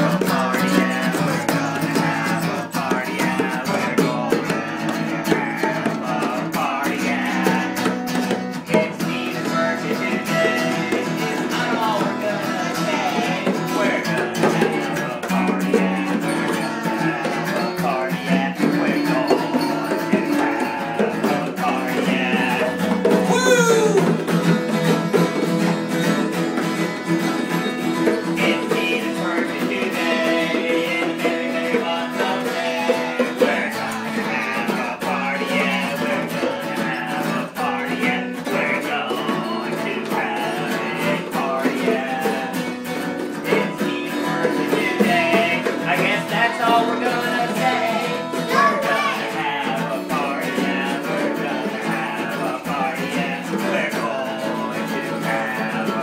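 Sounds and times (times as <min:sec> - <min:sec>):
man and girl singing: 0:00.0 - 0:26.6, 0:27.3 - 0:56.0
acoustic guitars strummed: 0:00.0 - 0:56.0.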